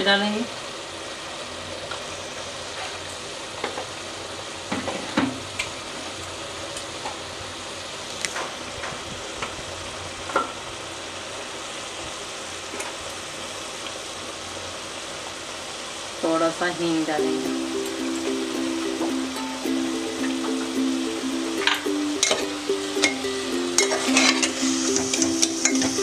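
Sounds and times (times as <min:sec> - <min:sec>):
spices sizzling in oil: 0:00.0 - 0:26.0.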